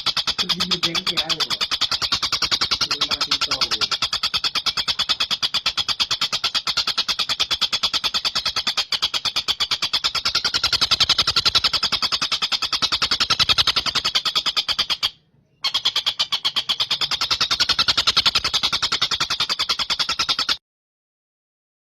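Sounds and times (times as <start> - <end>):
kingfisher chattering trill: 0.0 - 20.6.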